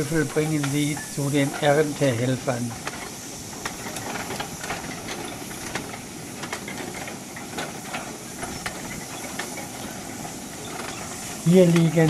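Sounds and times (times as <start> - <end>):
steady hiss: 0.0 - 12.0
wagons clicking and knocking: 0.0 - 12.0.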